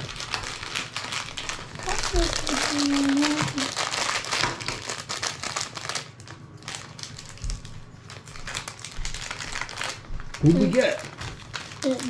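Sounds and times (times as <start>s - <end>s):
wrapper crinkling and tearing: 0.0s - 12.0s.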